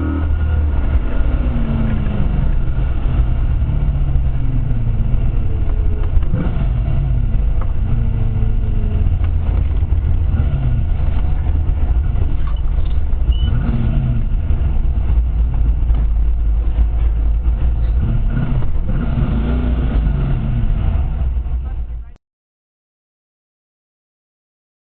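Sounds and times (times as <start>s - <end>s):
race car engine revving: 0.0s - 22.1s.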